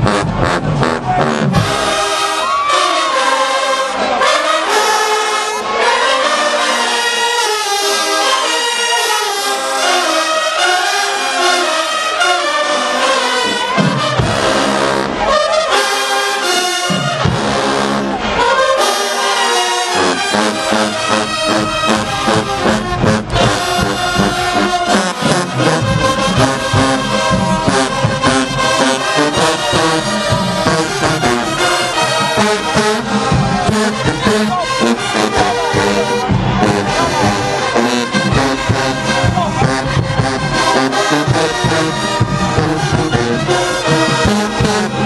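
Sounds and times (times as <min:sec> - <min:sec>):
marching band playing: 0:00.0 - 0:45.0.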